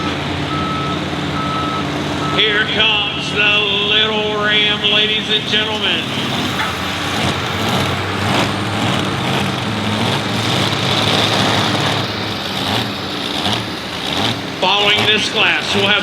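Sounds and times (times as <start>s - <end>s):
truck engine under load: 0.0s - 16.0s.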